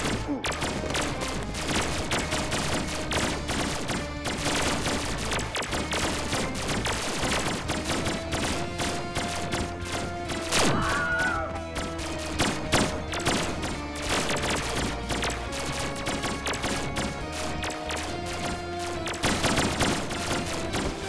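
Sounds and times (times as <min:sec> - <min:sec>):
background music: 0:00.0 - 0:21.0
rapid gunfire: 0:00.0 - 0:21.0.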